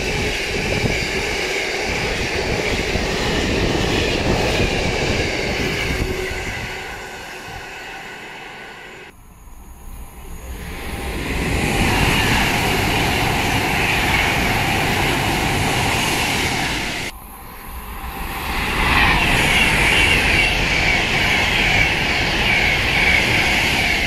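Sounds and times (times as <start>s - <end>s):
high whine: 0.0s - 24.0s
passing train rumble: 0.0s - 24.0s.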